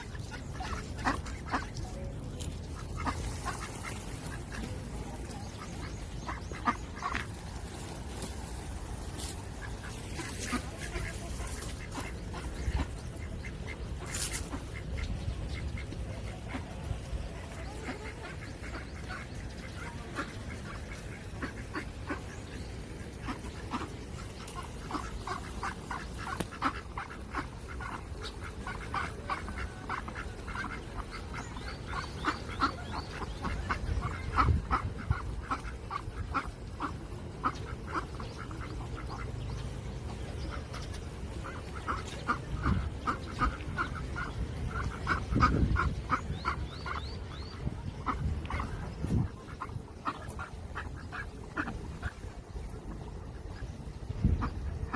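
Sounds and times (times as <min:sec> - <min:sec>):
ducks quacking: 0:00.0 - 0:54.9.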